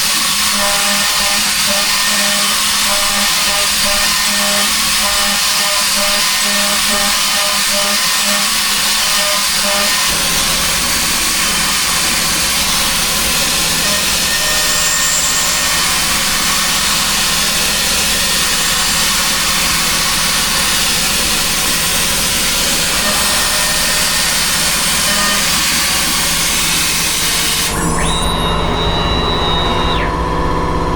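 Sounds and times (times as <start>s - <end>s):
machine milling metal: 0.0s - 30.8s
machine whine: 0.0s - 30.9s.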